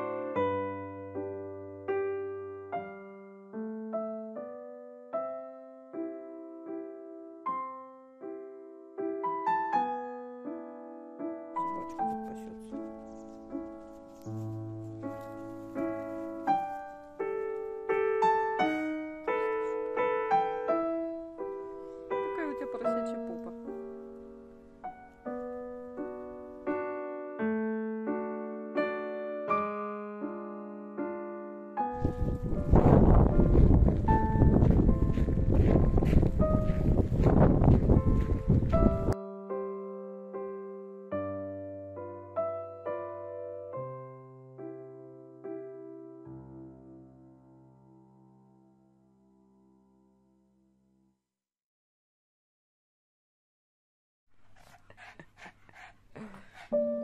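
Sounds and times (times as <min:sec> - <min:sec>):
slow piano melody: 0:00.0 - 0:50.7, 0:54.4 - 0:57.0.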